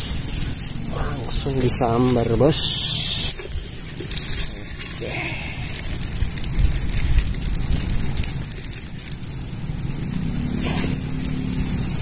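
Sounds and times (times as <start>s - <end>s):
crackling hiss: 0.0s - 12.0s
wind rumbling on microphone: 0.0s - 12.0s.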